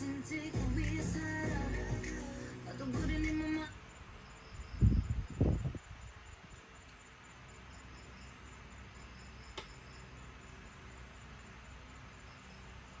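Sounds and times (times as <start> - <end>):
hiss and low hum: 0.0 - 13.0
faint high chirping: 2.2 - 13.0.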